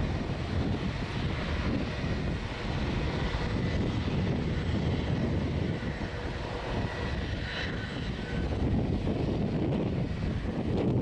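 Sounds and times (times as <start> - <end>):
faint high engine whine: 0.0 - 11.0
jet engines rumbling: 0.0 - 11.0.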